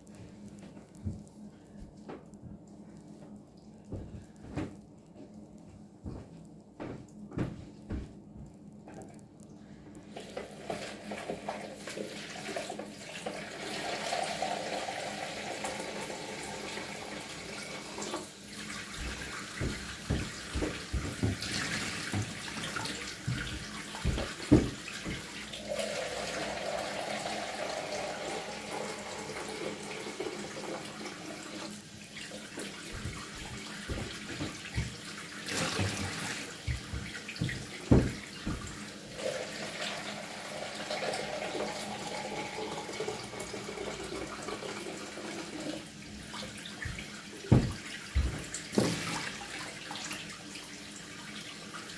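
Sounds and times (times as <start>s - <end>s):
water running into a bowl: 10.1s - 51.9s.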